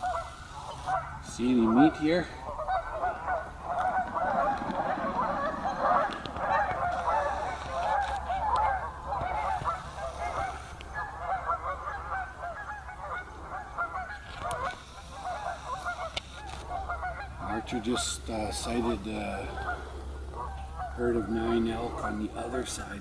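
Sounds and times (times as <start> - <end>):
flock of geese honking: 0.0 - 23.0.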